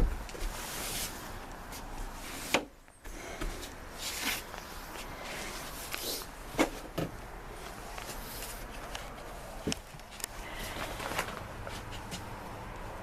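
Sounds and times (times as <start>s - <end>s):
rustling: 0.0s - 2.7s, 3.3s - 12.4s.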